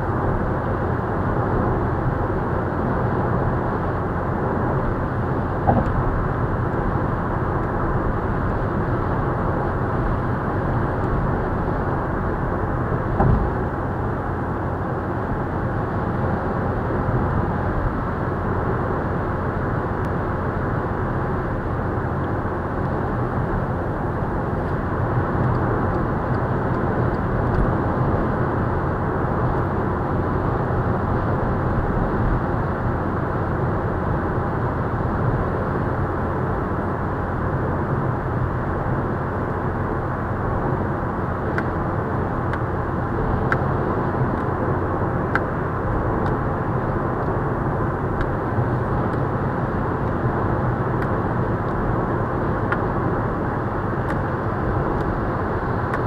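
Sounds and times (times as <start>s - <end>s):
road and wind noise in car: 0.0s - 56.0s.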